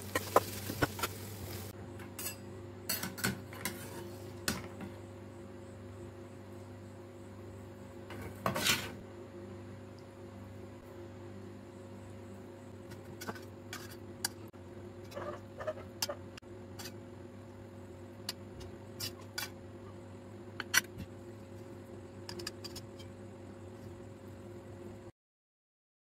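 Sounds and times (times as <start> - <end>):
steady low hum: 0.0 - 25.1.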